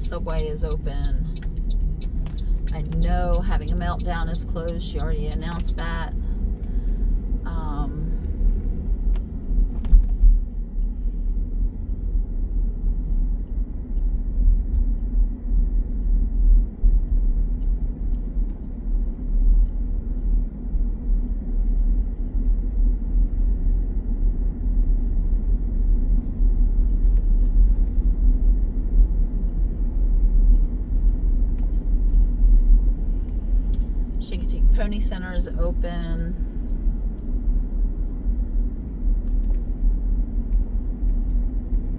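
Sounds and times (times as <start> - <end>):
car interior rumble: 0.0 - 41.9.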